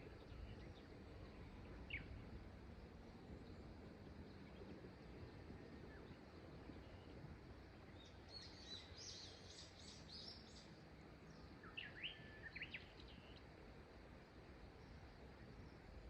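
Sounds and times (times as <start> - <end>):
small birds singing: 0.0 - 13.6
low background hiss: 0.0 - 16.0.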